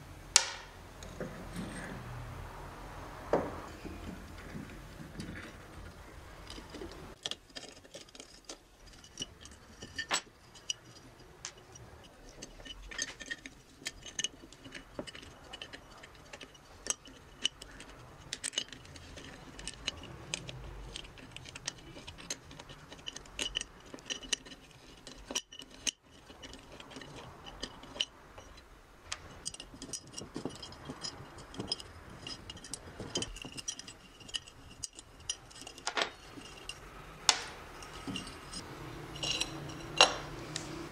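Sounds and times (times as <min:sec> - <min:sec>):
wrench clinking on metal nuts: 0:03.6 - 0:40.9.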